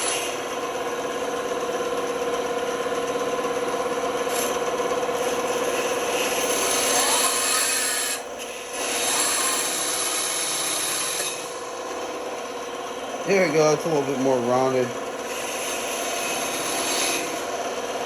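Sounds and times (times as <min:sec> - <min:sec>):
band saw cutting wood: 0:00.0 - 0:18.0.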